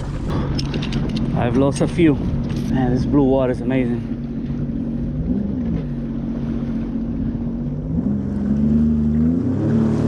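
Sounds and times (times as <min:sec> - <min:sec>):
jet ski engine running: 0:00.0 - 0:10.0.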